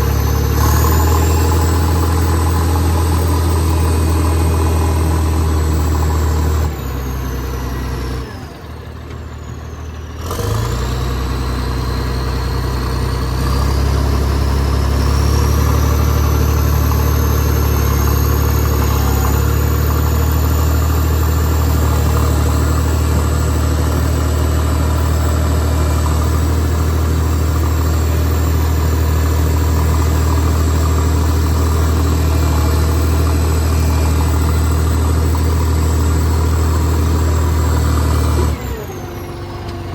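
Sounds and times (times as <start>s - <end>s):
diesel engine whine revving: 0.0s - 39.9s.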